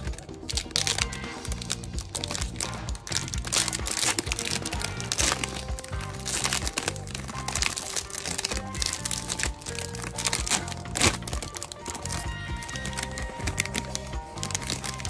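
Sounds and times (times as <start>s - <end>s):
background music with bass line: 0.0s - 15.0s
plastic wrapper crinkling: 0.0s - 15.0s.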